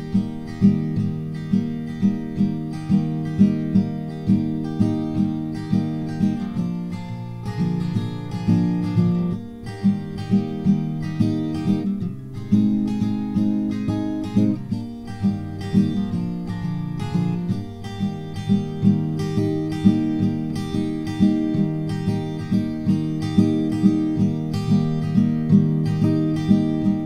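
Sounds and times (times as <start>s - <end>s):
acoustic guitar picking and strumming: 0.0s - 27.0s.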